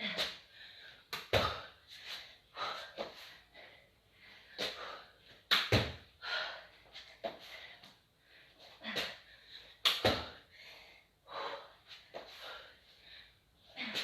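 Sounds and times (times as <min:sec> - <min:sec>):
person breathing hard: 0:00.0 - 0:05.3, 0:06.1 - 0:14.0.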